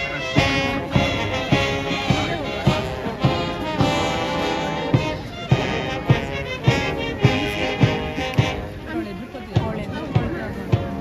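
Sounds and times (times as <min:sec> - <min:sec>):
bass drum beat: 0:00.0 - 0:11.0
military band playing a march: 0:00.0 - 0:11.0.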